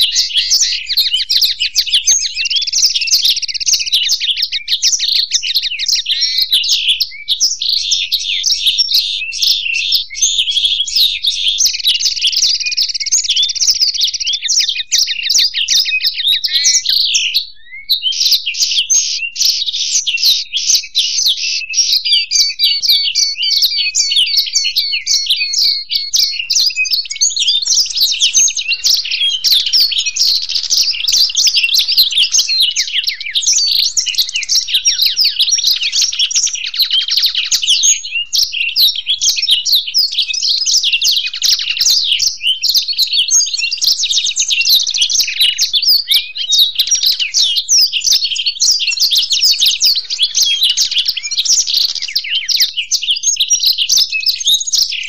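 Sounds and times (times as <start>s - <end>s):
canary singing: 0.0s - 55.0s
goldfinch singing: 0.0s - 55.0s.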